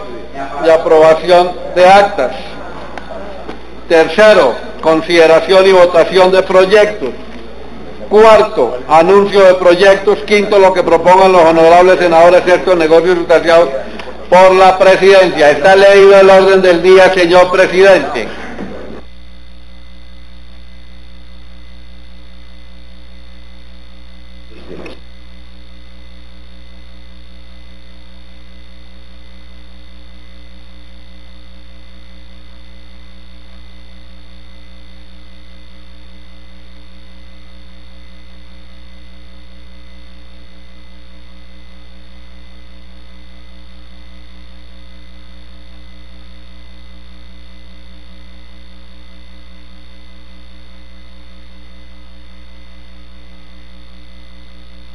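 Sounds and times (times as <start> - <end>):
electrical hum with hiss: 0.0 - 54.9.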